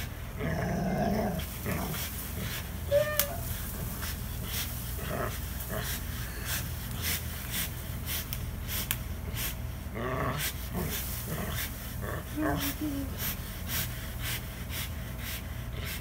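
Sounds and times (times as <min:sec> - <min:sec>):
dog snorting and breathing hard: 0:00.0 - 0:02.9, 0:03.5 - 0:16.0.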